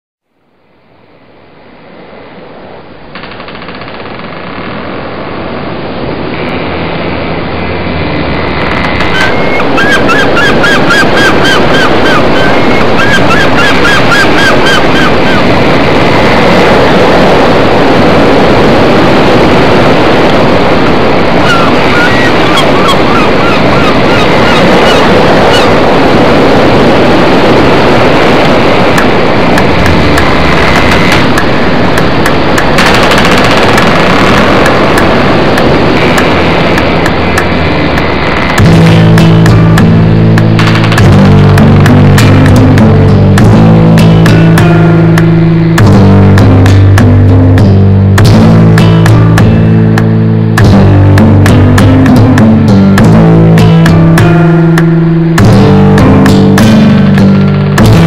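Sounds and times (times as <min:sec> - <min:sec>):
rushing wind and water: 0:00.4 - 0:58.0.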